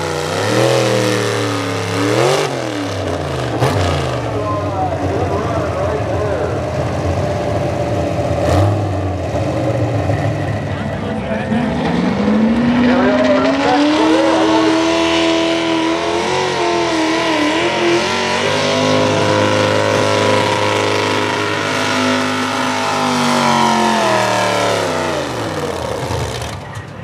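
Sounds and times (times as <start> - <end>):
tractor engine at high revs: 0.0 - 27.0.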